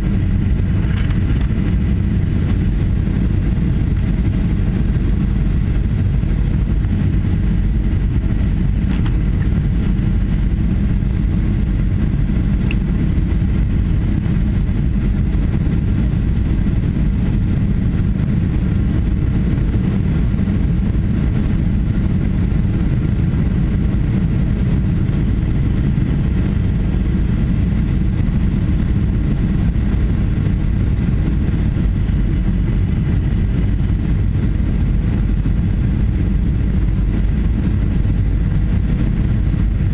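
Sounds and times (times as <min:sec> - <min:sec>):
airflow past fuselage: 0:00.0 - 0:39.9
jet engines rumbling: 0:00.0 - 0:39.9.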